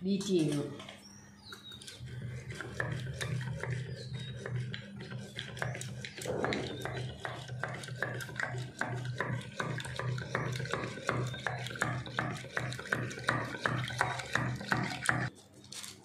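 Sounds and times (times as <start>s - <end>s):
hand whisk beating in steel tin: 2.0s - 15.3s.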